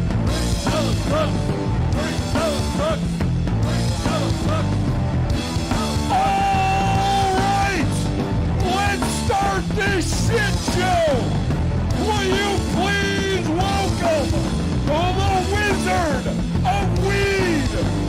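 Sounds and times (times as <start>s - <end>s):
punk rock band playing: 0.0s - 18.0s
person singing and yelling: 0.3s - 4.9s, 5.5s - 11.4s, 12.0s - 18.0s.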